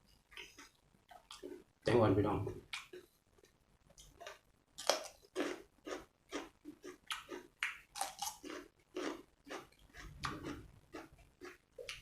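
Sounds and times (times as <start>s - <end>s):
person chewing food: 0.1s - 1.8s, 2.5s - 12.0s.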